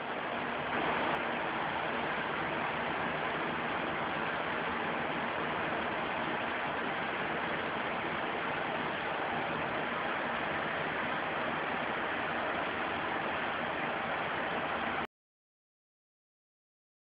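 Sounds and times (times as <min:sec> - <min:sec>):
steady background hiss: 0:00.0 - 0:15.1.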